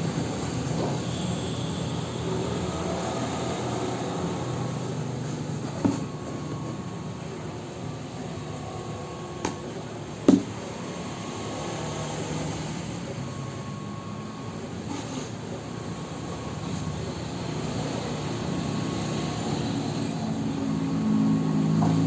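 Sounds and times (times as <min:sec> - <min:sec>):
paint-mixing machine rumbling: 0:00.0 - 0:22.0.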